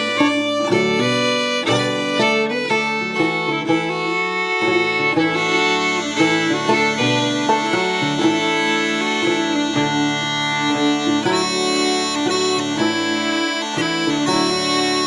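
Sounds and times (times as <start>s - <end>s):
fiddle playing waltz melody: 0.0s - 15.0s
plucked banjo: 0.0s - 15.0s.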